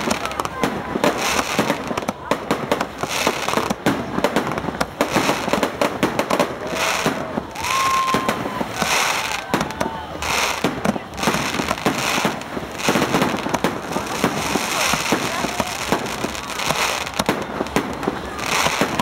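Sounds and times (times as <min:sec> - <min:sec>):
fireworks bangs and crackles: 0:00.0 - 0:19.0
fireworks whistling: 0:00.0 - 0:19.0.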